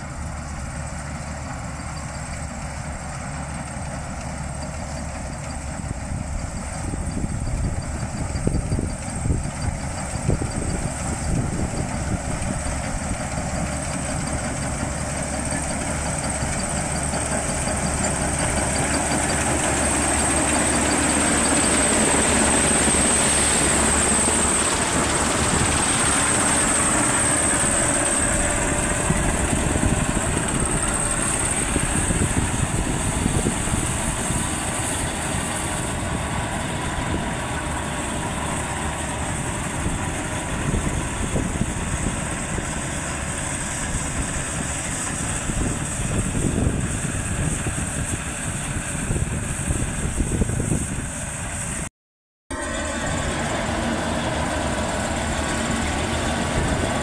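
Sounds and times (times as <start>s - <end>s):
combine harvester running: 0.0s - 51.9s, 52.5s - 57.0s.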